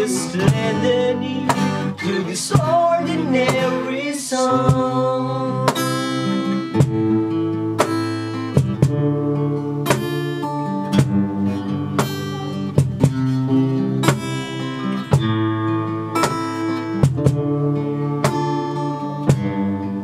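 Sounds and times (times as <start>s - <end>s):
acoustic guitars playing slow song: 0.0s - 20.0s.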